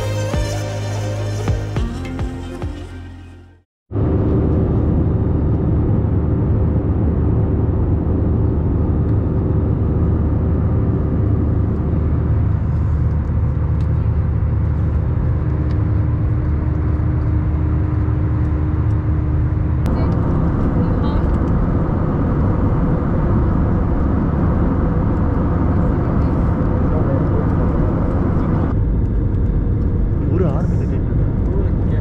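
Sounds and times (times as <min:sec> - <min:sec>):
jet engines rumbling: 0:03.9 - 0:32.0.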